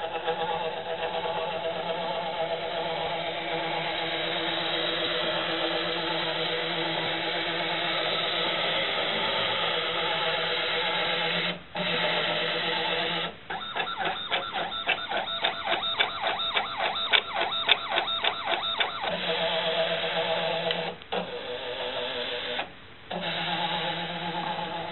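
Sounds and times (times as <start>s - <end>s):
stepper motors whining: 0.0s - 24.9s.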